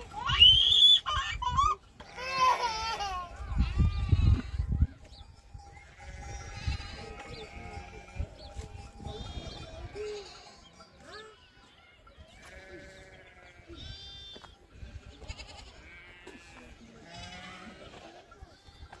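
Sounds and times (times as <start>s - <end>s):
sheep and goats bleating: 0.0s - 19.0s.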